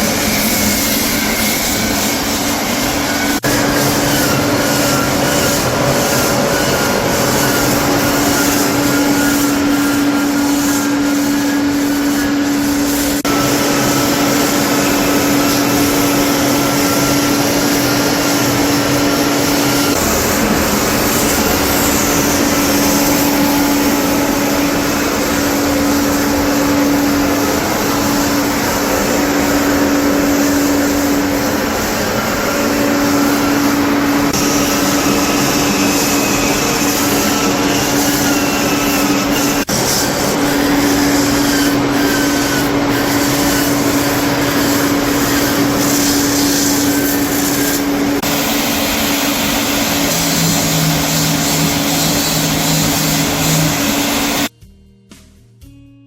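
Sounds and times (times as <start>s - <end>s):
machine drone humming: 0.0s - 54.5s.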